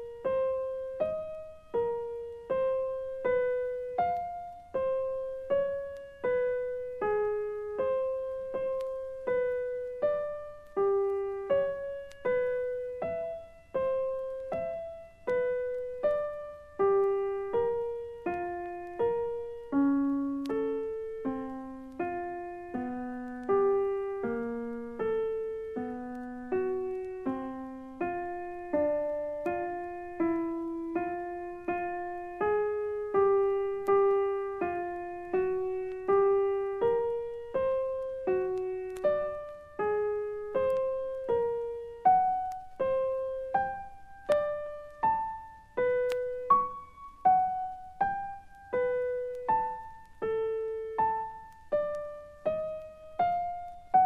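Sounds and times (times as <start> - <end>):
solo piano single notes: 0.0 - 54.0.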